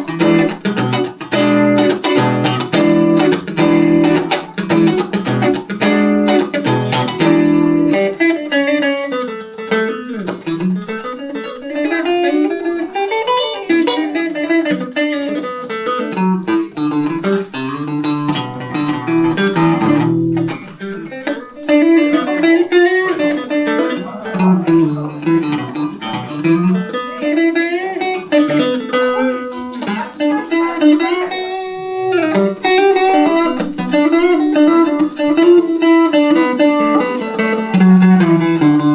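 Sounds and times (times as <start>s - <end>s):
electric guitar melody: 0.0s - 38.9s.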